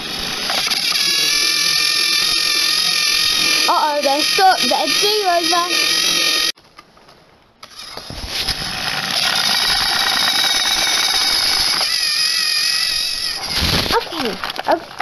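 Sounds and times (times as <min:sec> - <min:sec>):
toy train motors whirring: 0:00.0 - 0:06.6, 0:07.6 - 0:15.0.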